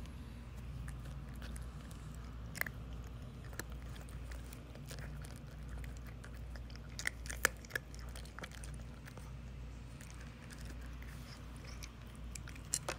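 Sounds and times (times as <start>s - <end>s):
cat crunching dry kibble: 0.5s - 12.9s.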